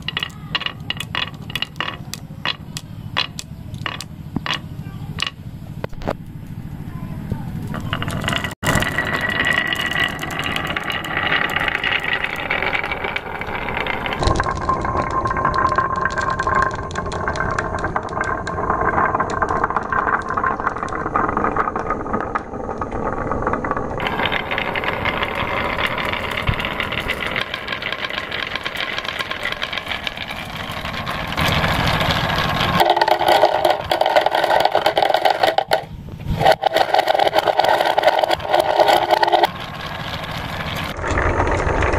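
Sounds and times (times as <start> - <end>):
marbles falling into plastic jar: 0.0 - 5.4, 7.6 - 41.9
marbles rolling on wooden rails: 0.0 - 6.6, 7.2 - 41.9.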